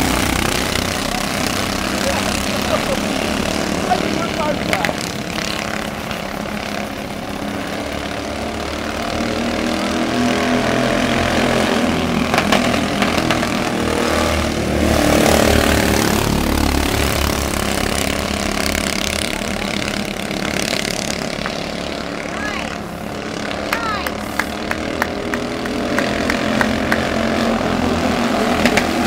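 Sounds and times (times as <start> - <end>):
race car engines running hard: 0.0 - 29.0.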